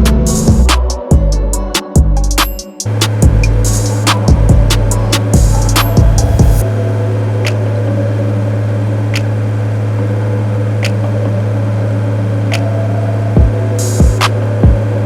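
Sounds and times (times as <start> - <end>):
low bass note: 2.9 - 15.0.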